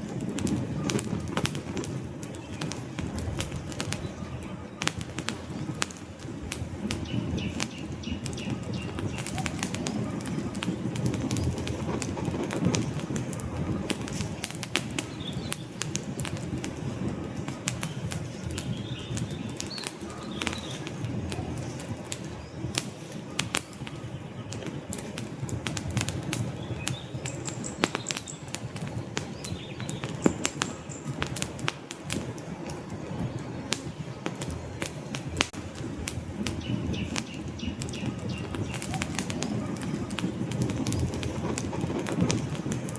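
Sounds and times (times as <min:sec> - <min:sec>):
logs crackling and popping: 0:00.0 - 0:42.9
rush of fire flames: 0:00.0 - 0:42.9.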